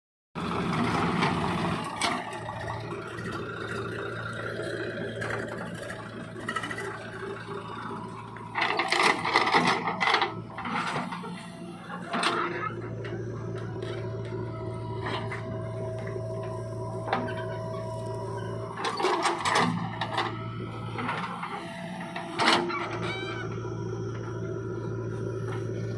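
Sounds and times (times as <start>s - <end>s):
diesel machinery engine clattering: 0.4s - 25.9s.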